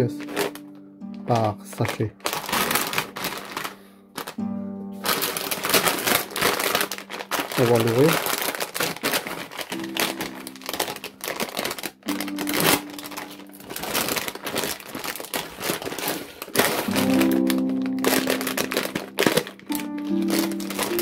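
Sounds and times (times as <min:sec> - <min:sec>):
background music with low notes: 0:00.0 - 0:21.0
plastic bag crinkling: 0:00.0 - 0:21.0.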